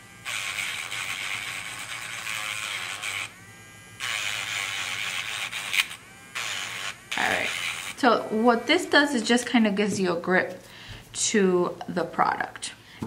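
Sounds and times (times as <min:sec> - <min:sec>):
electric nail file buzzing: 0:00.0 - 0:12.6.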